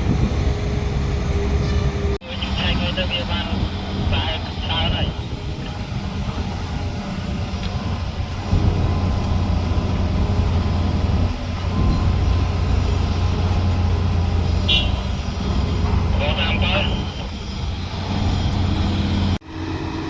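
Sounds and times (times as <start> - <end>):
heavy machinery diesel engine droning: 0.0 - 20.0.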